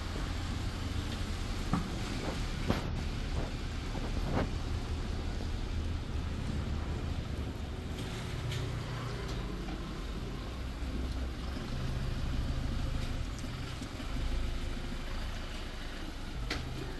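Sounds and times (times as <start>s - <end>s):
car engine running at low revs: 0.0s - 16.9s.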